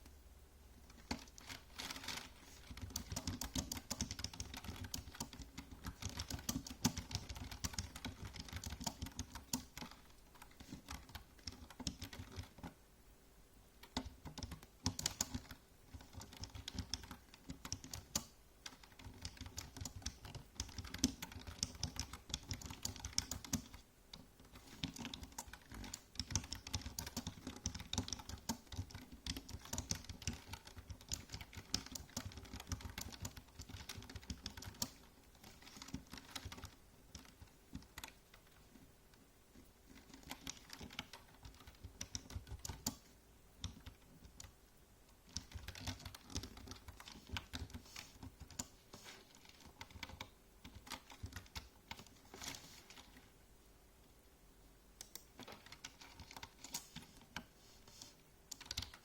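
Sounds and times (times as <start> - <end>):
typing on a keyboard: 0.9 - 12.8, 13.8 - 38.6, 39.9 - 44.6, 45.3 - 53.2, 55.0 - 57.5, 58.5 - 59.0.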